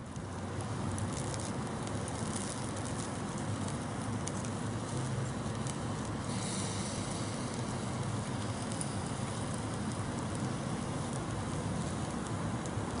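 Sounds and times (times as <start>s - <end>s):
charcoal crackling and popping: 0.0s - 13.0s.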